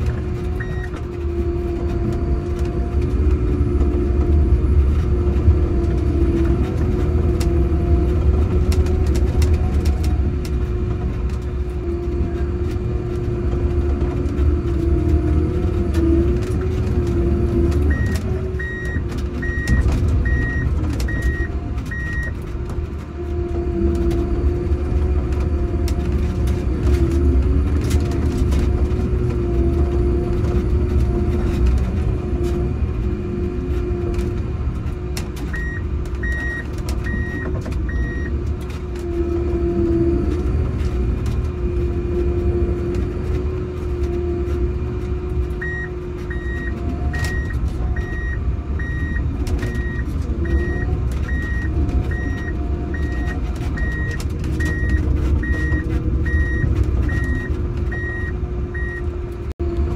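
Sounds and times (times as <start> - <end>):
diesel engine droning under load: 0.0 - 59.9.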